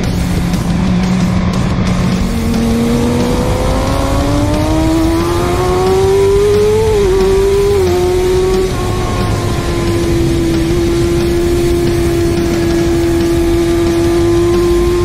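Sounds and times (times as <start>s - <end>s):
wind rush: 0.0s - 14.6s
motorcycle engine accelerating: 0.0s - 15.0s.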